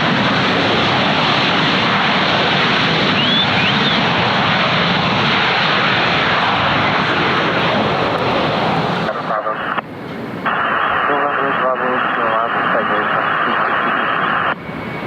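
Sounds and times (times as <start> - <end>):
jet engines passing: 0.0 - 15.0.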